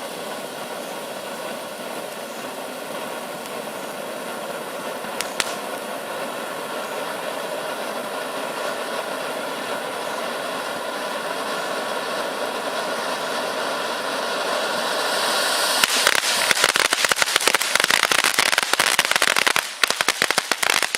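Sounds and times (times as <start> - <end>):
firework crackling pops: 0.0 - 20.9
ground firework hissing: 0.0 - 20.9.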